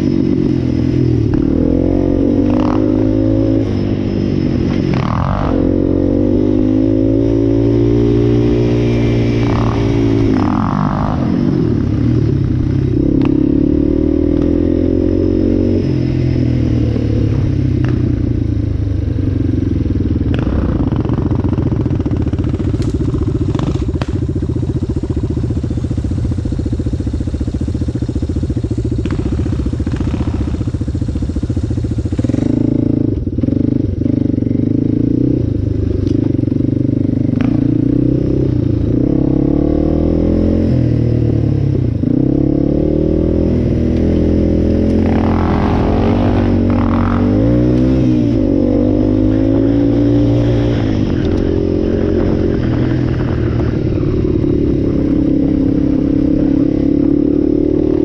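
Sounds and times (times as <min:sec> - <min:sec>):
quad bike engine revving: 0:00.0 - 0:18.4, 0:19.2 - 0:58.0.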